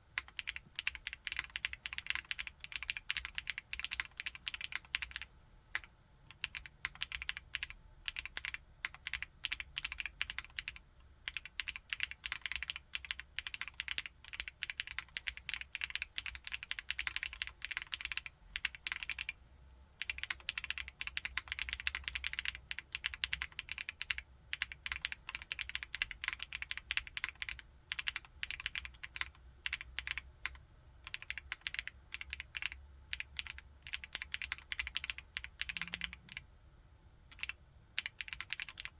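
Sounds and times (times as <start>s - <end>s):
mechanical keyboard typing: 0.2s - 19.3s, 20.0s - 36.4s, 37.3s - 38.9s.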